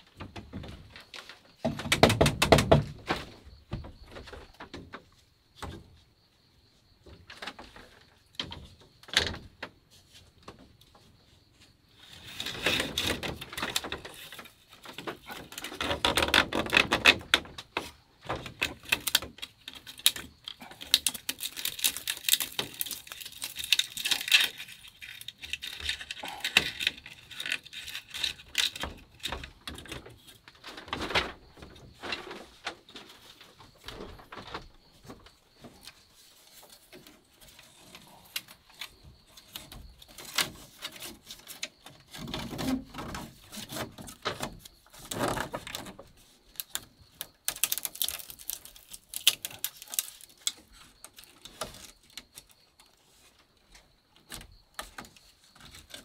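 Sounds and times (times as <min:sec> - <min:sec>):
bamboo strips clicking and rattling: 0:00.0 - 0:06.1, 0:07.0 - 0:56.0.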